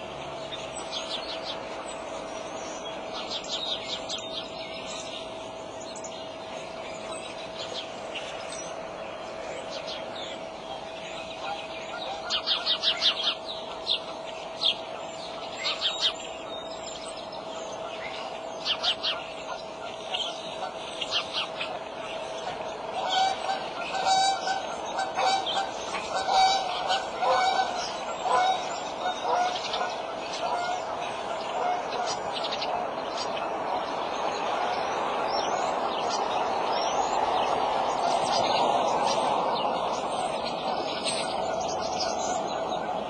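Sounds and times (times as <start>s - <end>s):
birds calling: 0.0s - 43.0s
faint hum: 0.0s - 43.0s.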